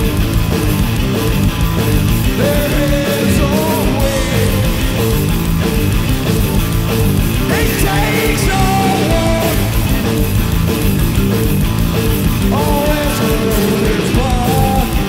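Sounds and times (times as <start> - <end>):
distorted electric guitar riffing: 0.0 - 15.0
drum kit with crashing cymbals: 0.0 - 15.0.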